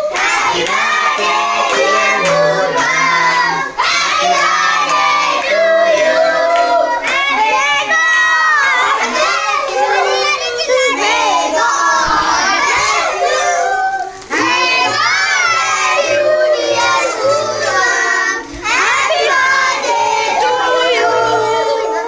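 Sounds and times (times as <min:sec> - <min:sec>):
children shouting and singing: 0:00.0 - 0:22.0.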